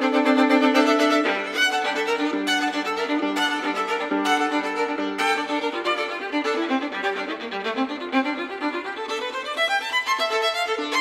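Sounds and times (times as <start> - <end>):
solo violin bowed: 0.0 - 11.0.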